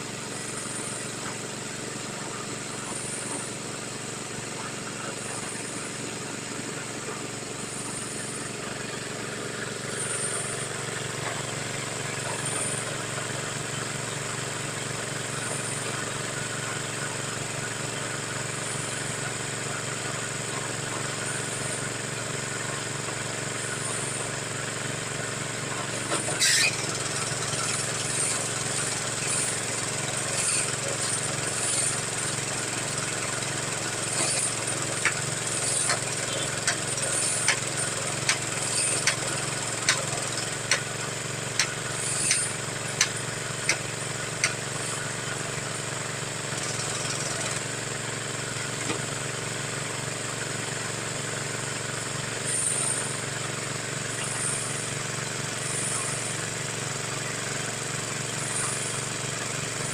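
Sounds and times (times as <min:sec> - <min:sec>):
drilling machine engine running: 0:00.0 - 0:59.9.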